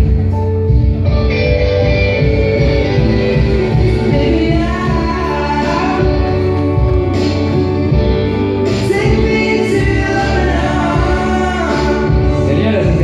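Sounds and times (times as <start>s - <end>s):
song with singing: 1.6s - 13.0s.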